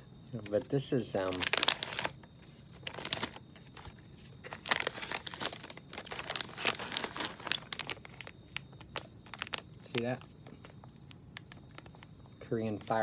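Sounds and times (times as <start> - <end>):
plastic packet crinkling: 1.2 - 13.0.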